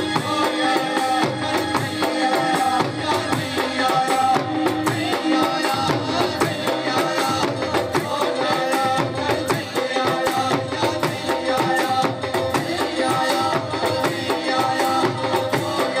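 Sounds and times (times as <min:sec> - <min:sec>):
dhol drum beating: 0:00.0 - 0:16.0
person singing into a microphone: 0:00.0 - 0:16.0.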